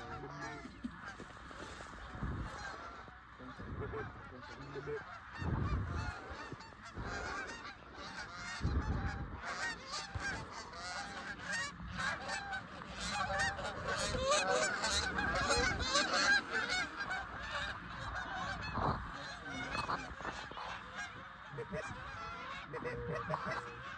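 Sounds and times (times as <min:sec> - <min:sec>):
geese honking and clucking: 0:00.0 - 0:23.9.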